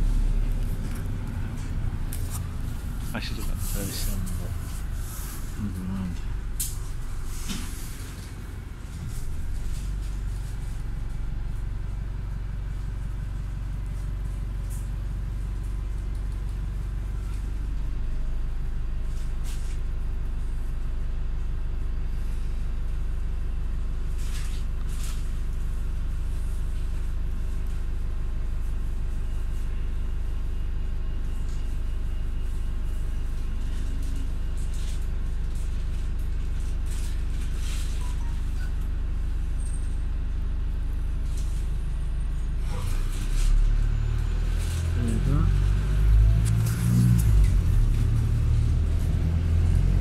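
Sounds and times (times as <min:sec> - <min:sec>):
vehicle engine and road rumble: 0:00.0 - 0:50.0.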